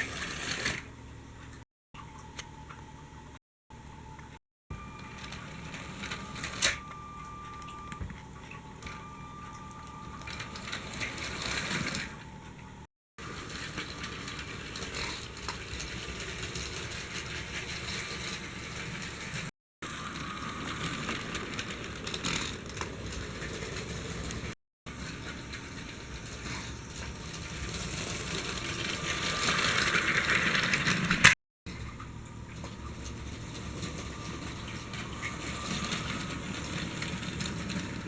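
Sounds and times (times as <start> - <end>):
toy train motor running: 0.0 - 0.9, 5.0 - 8.0, 8.9 - 12.4, 13.2 - 31.4, 32.9 - 38.0
plastic wheels rattling on track: 0.0 - 1.0, 5.0 - 7.7, 8.8 - 12.6, 13.2 - 31.4, 32.5 - 38.0.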